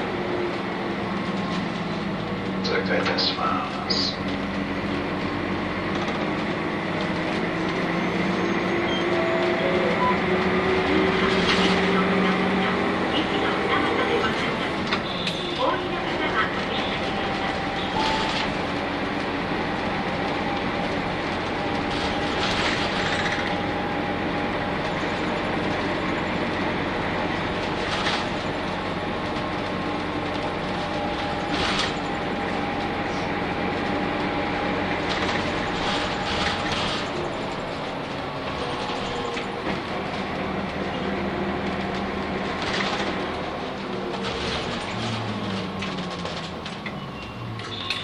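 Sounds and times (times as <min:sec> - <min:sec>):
bus engine drone with whine: 0:00.0 - 0:48.0.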